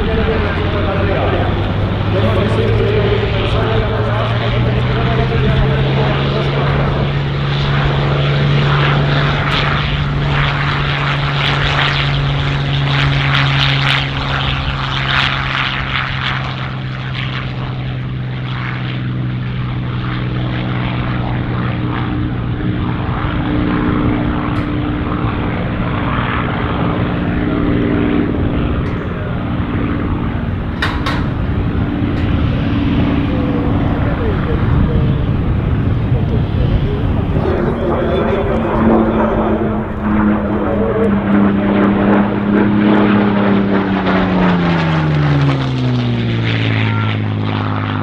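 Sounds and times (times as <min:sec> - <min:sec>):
propeller plane engine drone: 0:00.0 - 0:48.0.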